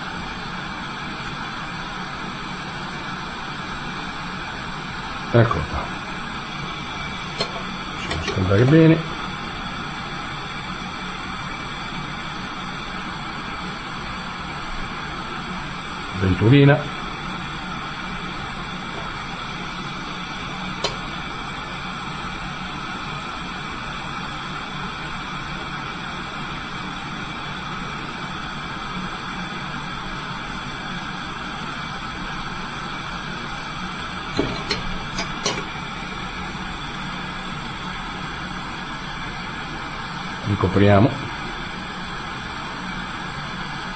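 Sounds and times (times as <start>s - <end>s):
torch flame hissing: 0.0s - 43.9s.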